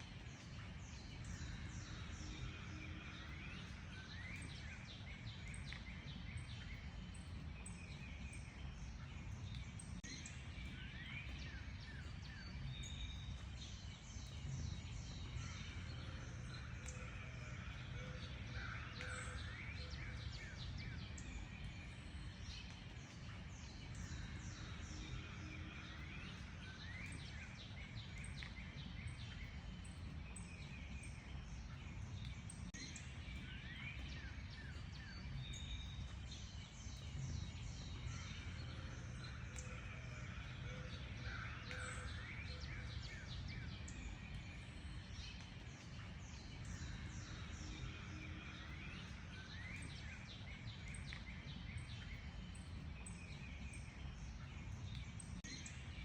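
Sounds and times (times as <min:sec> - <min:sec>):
birds chirping and singing: 0:00.3 - 0:56.0.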